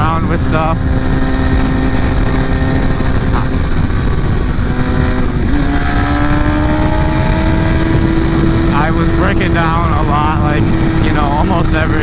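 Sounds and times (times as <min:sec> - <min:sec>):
motorcycle engine accelerating: 0:00.0 - 0:12.0
wind rumble on microphone: 0:00.0 - 0:12.0.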